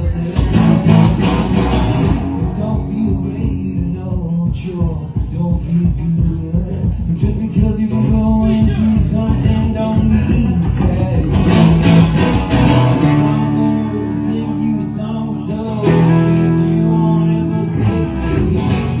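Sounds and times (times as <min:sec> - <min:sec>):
live band music with guitar: 0:00.0 - 0:19.0.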